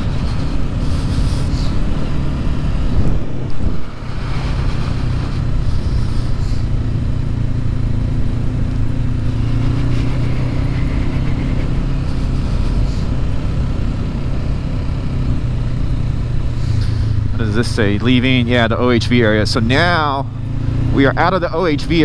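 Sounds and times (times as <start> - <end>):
motorcycle engine cruising: 0.0 - 22.0
road noise: 0.0 - 22.0.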